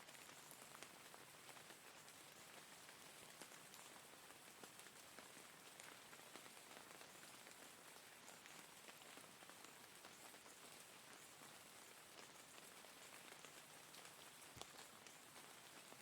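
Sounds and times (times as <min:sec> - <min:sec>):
faint steady rain falling: 0:00.0 - 0:16.0.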